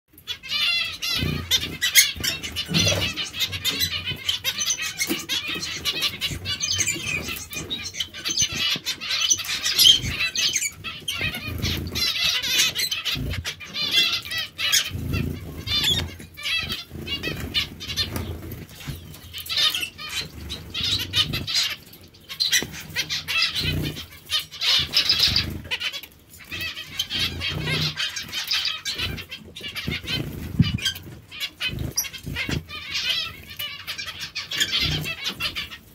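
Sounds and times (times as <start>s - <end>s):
finches chirping: 0.2s - 35.9s
wings flapping and splashing: 0.2s - 35.9s.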